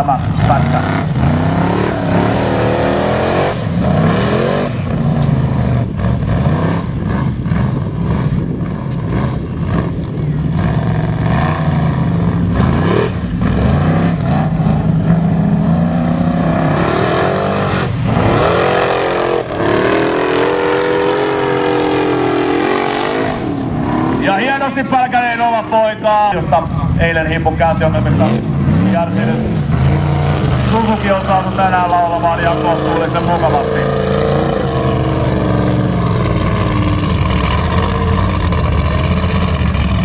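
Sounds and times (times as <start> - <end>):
buggy engine revving hard: 0.0 - 25.5, 26.6 - 40.0.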